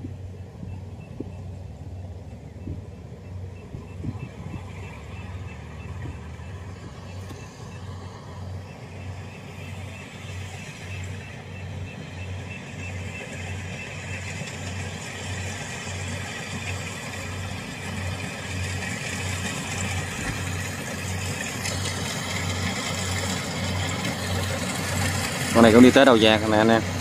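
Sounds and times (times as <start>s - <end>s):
combine harvester engine: 0.0s - 27.0s
low throbbing hum: 0.0s - 27.0s.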